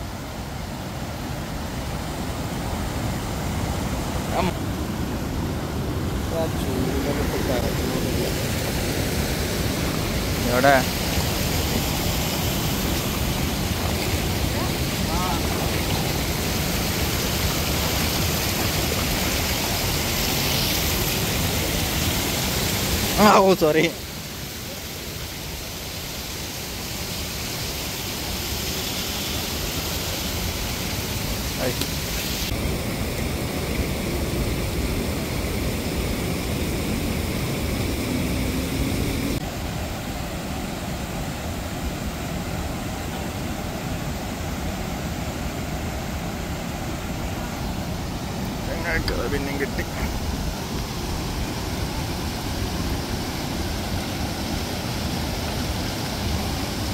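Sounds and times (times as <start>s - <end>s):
water rushing over a weir: 0.0s - 56.9s.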